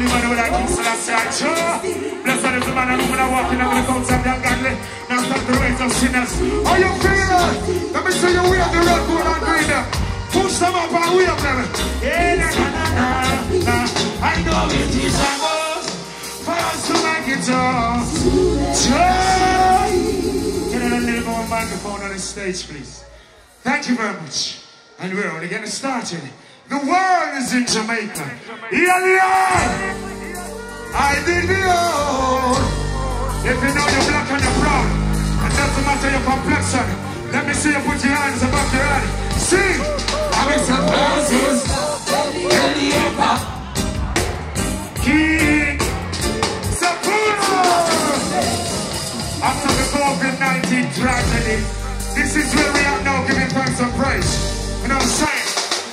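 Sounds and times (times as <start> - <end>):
heavy bass: 0.0 - 15.3, 16.4 - 23.2, 29.4 - 46.8, 47.5 - 55.3
man singing: 0.0 - 22.3, 28.2 - 43.6, 46.8 - 55.5
live reggae band playing: 0.0 - 55.9.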